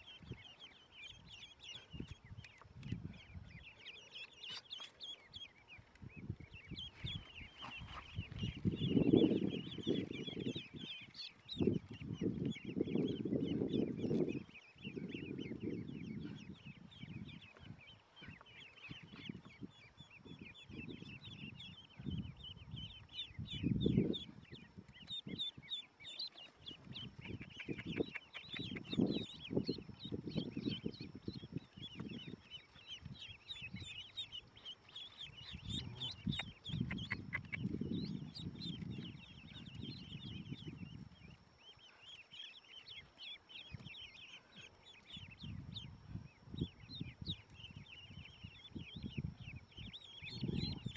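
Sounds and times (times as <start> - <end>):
ducklings peeping: 0.0 - 50.9.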